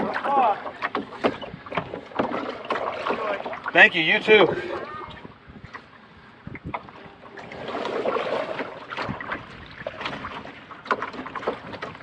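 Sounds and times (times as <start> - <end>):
paddle swishing through water: 0.0 - 12.0
small splashes and knocks: 0.0 - 12.0.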